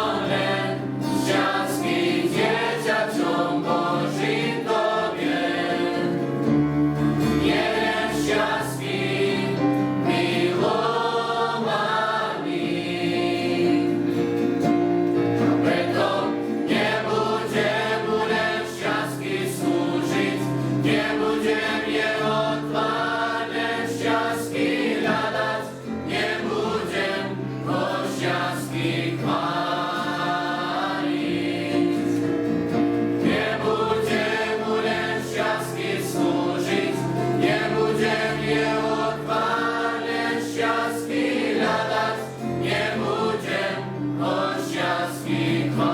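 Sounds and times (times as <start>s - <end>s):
choir singing: 0.0s - 45.9s.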